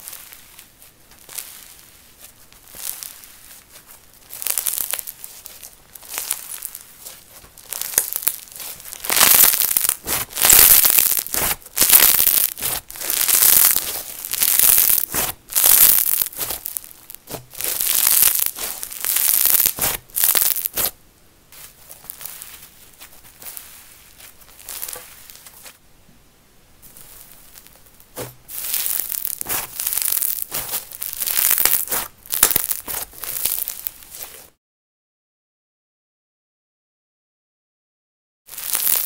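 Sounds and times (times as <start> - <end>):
slime crackling and popping: 0.0 - 25.8, 26.8 - 34.5, 38.5 - 39.0.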